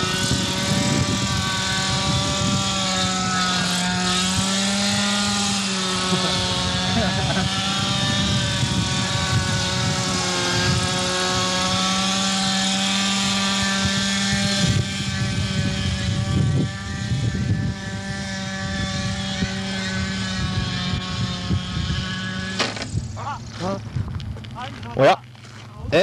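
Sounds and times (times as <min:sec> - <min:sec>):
model helicopter engine running: 0:00.0 - 0:23.9.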